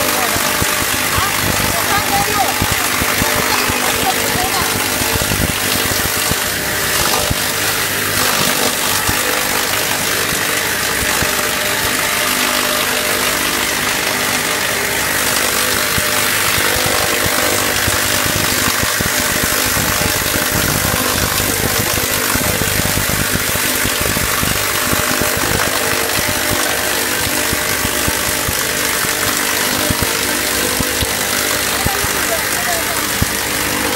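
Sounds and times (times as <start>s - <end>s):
motor hum: 0.0s - 33.9s.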